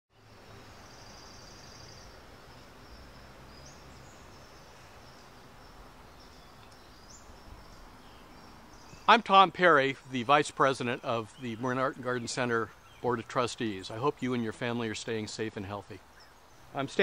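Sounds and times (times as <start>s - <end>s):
steady background hiss: 0.2s - 17.0s.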